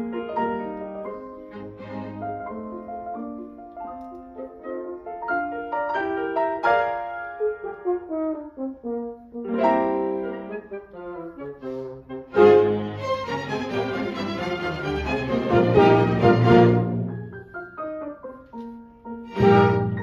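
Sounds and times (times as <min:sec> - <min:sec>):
symphony orchestra: 0:00.0 - 0:18.3, 0:19.0 - 0:20.0
grand piano: 0:00.0 - 0:20.0.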